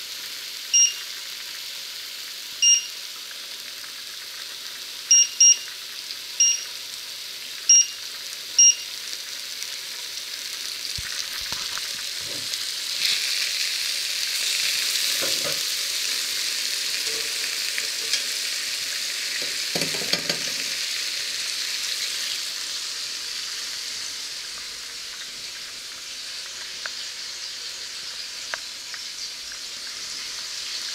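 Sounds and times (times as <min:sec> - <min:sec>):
patties sizzling in frying pan: 0:00.0 - 0:30.9.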